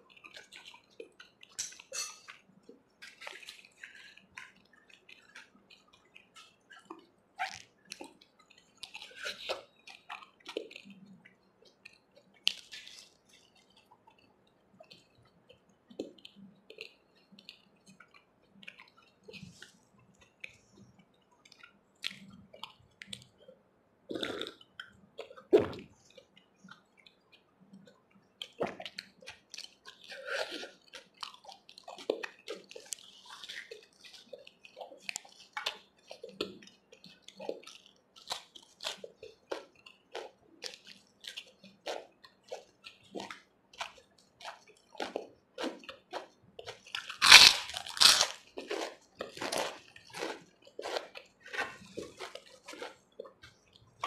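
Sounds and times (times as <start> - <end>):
chewing and wet mouth sounds: 0.0 - 54.0
soft squishing of bread: 0.0 - 54.0.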